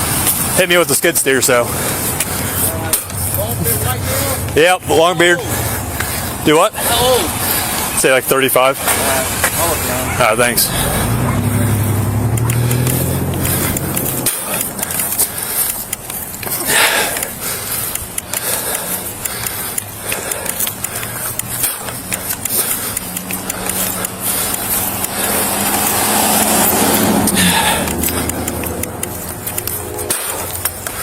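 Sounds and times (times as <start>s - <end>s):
rough road noise: 0.0s - 31.0s
vehicle engine running: 0.0s - 31.0s.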